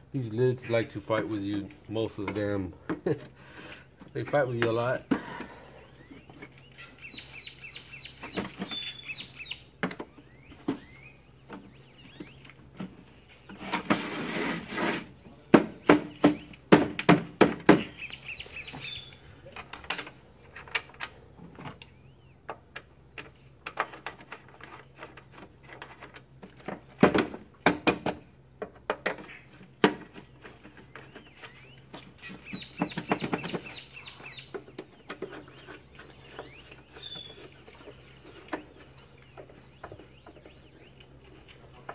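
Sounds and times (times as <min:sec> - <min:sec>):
bird calls: 0:00.6 - 0:14.0, 0:14.6 - 0:26.1, 0:29.1 - 0:41.9.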